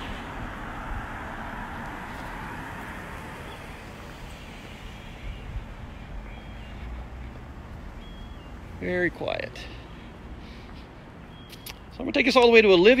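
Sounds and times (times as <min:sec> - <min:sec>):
vehicle passing: 0:00.0 - 0:11.3.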